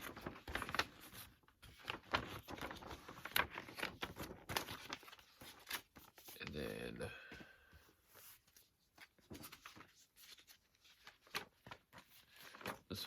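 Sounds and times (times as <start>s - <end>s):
paper rustling and crinkling: 0.0s - 6.7s, 7.3s - 13.0s.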